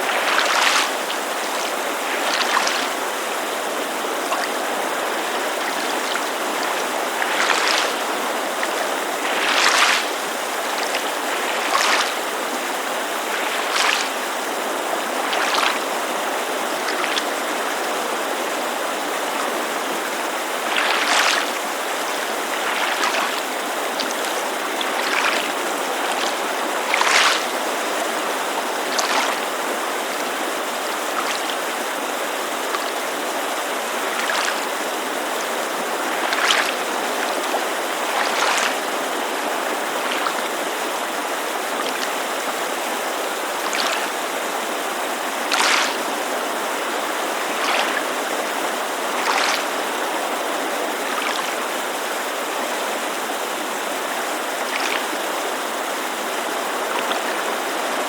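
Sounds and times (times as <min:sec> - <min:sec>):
creek rushing: 0:00.0 - 0:58.0
water lapping against shore: 0:00.0 - 0:58.0.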